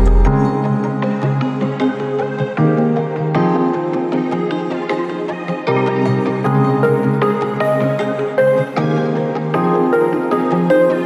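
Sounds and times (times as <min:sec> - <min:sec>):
instrumental music with held chords: 0:00.0 - 0:11.0.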